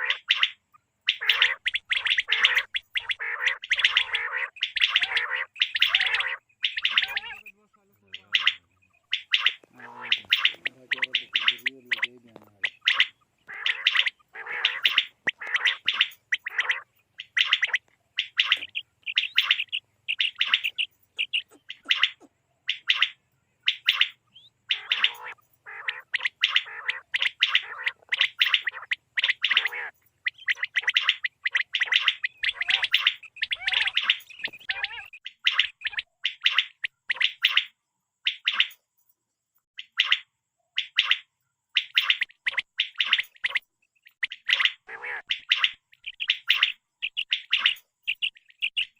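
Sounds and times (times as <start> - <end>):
quail calling: 0.0 - 38.8, 39.8 - 48.9.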